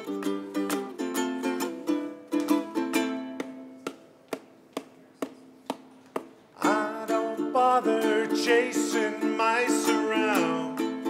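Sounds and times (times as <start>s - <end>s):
ukulele strumming: 0.0s - 11.0s.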